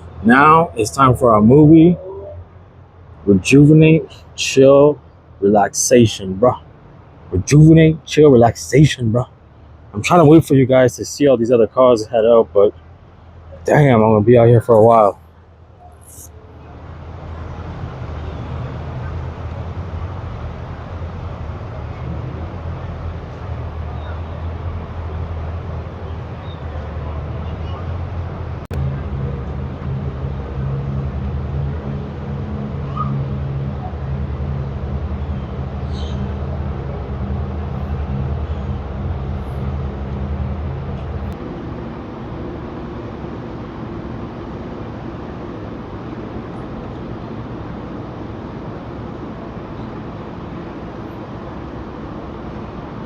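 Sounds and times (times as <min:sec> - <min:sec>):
car engine rumbling: 0:00.0 - 0:53.0
street traffic noise: 0:00.0 - 0:53.0.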